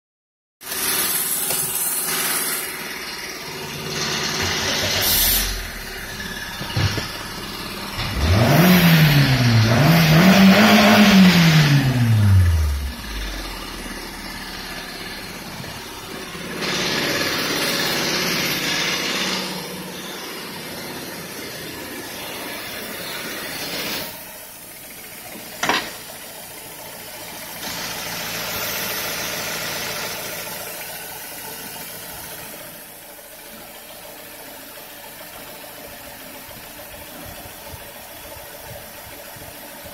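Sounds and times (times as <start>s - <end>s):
car engine idling and revving: 0.6s - 39.9s.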